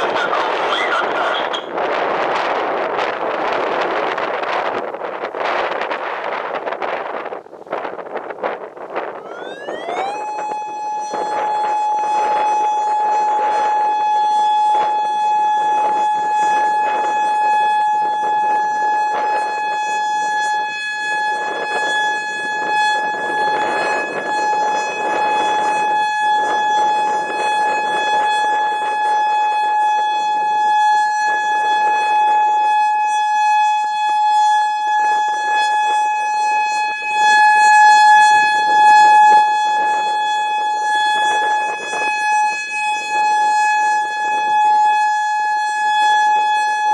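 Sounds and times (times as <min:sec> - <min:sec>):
warning siren steady tone: 0:00.0 - 0:46.9
wind buffeting microphone: 0:00.0 - 0:46.9.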